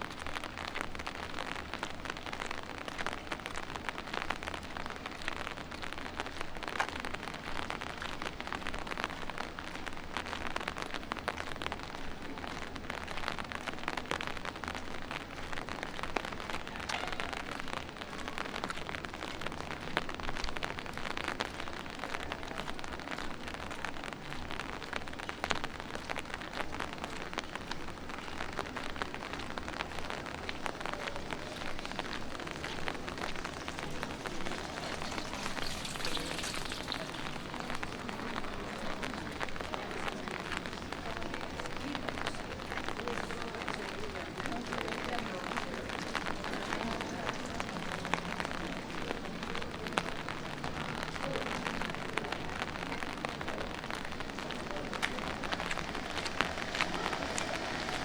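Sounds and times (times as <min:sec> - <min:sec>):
light rain on pavement: 0:00.0 - 0:58.0.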